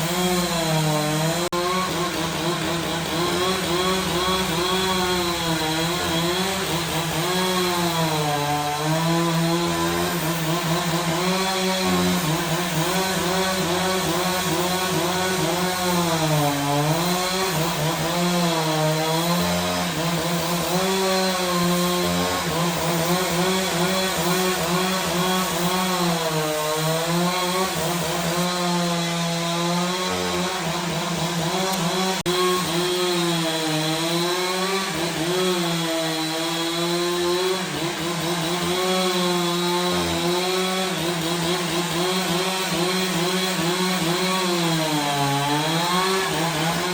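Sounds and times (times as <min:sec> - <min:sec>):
chainsaw cutting through log: 0:00.0 - 0:46.9.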